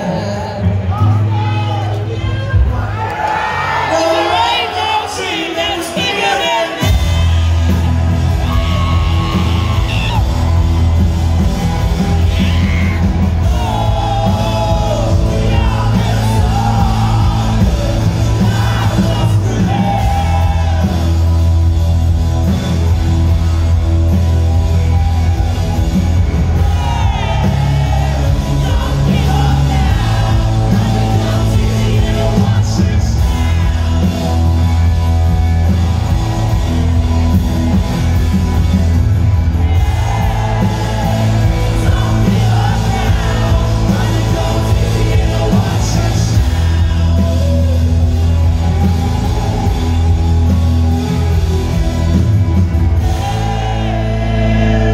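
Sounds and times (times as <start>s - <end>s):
crowd yelling: 0.0s - 54.9s
rock band playing loud: 0.0s - 54.9s.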